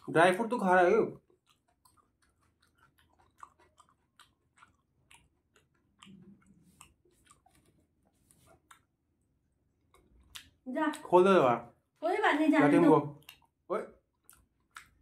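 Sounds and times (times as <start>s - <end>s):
person chewing: 0.0s - 11.3s, 12.6s - 15.0s.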